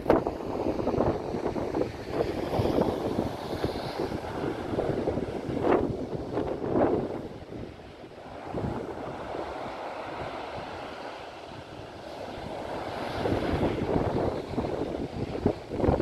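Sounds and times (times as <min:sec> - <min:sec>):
surf washing up a beach: 0:00.0 - 0:16.0
wind buffeting the microphone: 0:00.0 - 0:16.0.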